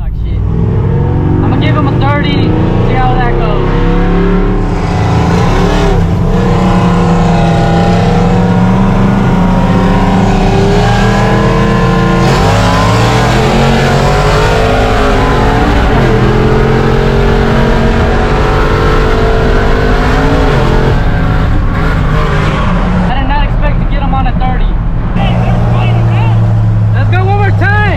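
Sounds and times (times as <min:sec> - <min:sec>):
truck engine revving through gears: 0:00.0 - 0:24.0, 0:24.7 - 0:27.9.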